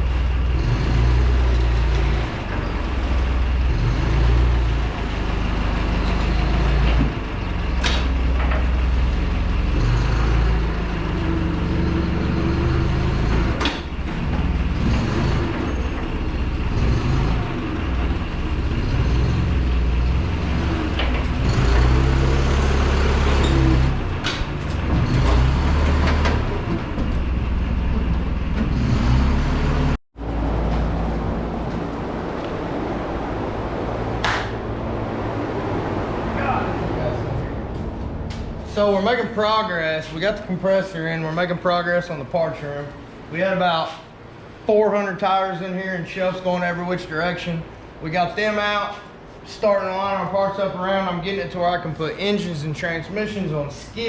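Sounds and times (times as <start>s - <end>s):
forklift engine rumbling: 0.0s - 54.0s.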